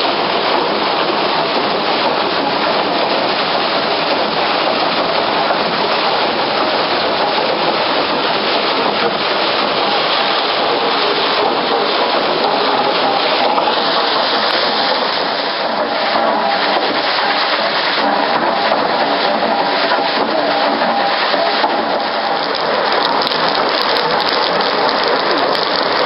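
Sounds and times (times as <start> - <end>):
loud steady rushing noise: 0.0 - 26.0.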